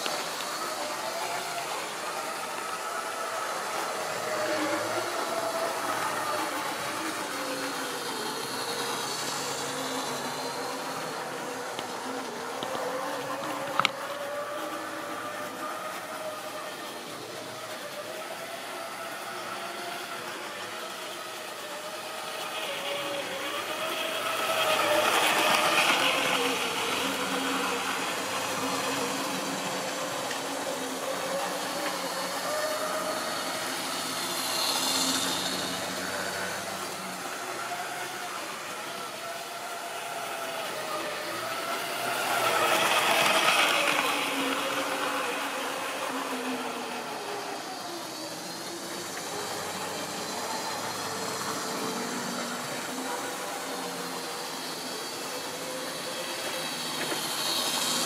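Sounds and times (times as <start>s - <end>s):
electric motor humming: 0.0s - 58.0s
wheels rumbling over track: 0.0s - 58.0s.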